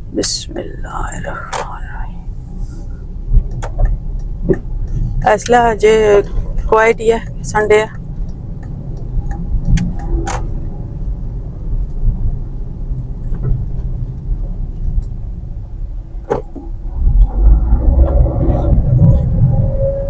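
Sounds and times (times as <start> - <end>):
car cabin rumble: 0.0 - 20.0.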